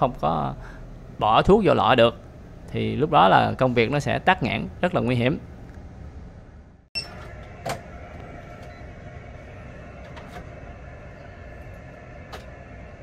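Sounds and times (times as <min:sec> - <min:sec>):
equipment hum: 0:00.0 - 0:13.0.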